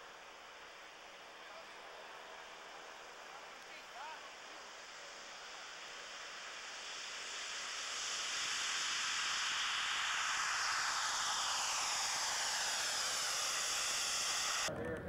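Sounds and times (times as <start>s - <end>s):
small jet engine whining: 0.0s - 14.8s.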